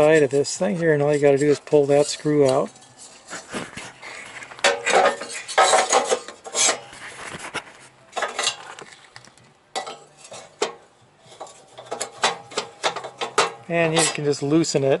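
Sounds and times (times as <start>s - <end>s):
metal clinking and scraping: 0.0s - 14.9s.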